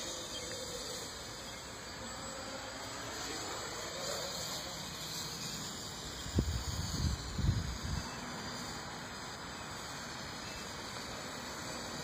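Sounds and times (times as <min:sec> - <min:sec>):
quadcopter propellers buzzing: 0:00.0 - 0:12.0.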